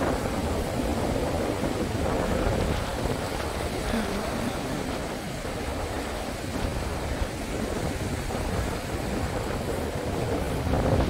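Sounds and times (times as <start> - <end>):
ocean surf: 0.0 - 11.0
wind on the microphone: 0.0 - 11.0.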